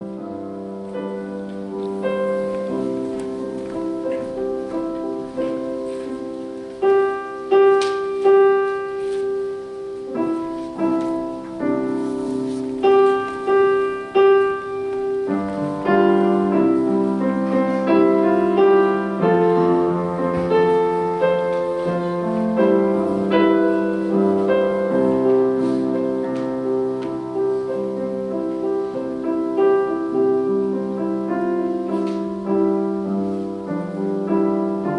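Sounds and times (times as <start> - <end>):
slow piano music: 0.0 - 34.9.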